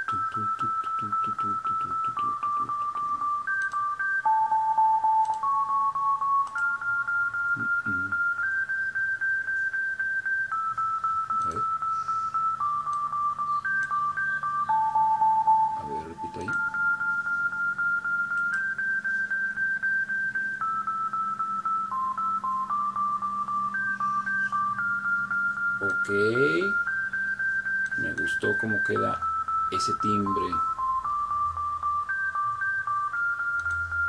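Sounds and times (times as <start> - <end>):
synthesizer melody: 0.0 - 34.0.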